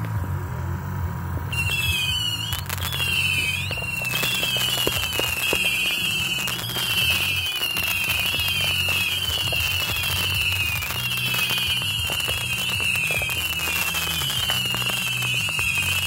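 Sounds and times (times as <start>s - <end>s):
firework bangs and crackles: 1.2s - 16.0s
whistling firework shells: 1.5s - 16.0s.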